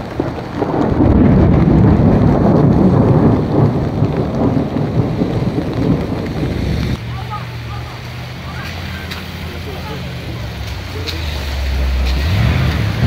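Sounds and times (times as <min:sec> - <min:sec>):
torrential rain on pavement: 0:00.0 - 0:13.0.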